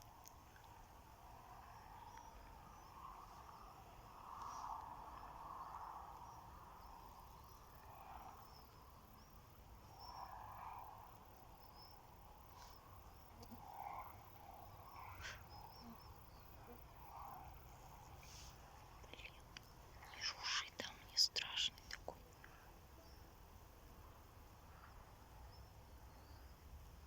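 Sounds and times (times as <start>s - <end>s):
soft outdoor noise: 0.0s - 27.0s.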